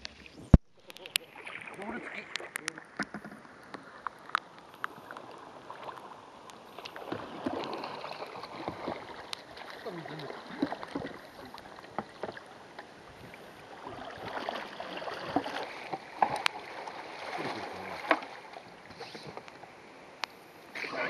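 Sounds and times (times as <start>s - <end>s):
paddle strokes splashing: 0.0s - 19.7s.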